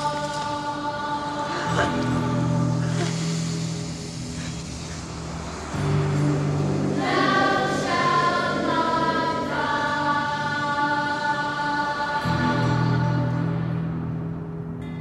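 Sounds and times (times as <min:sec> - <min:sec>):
choir singing held chords: 0:00.0 - 0:14.9
low steady drone: 0:00.0 - 0:15.0.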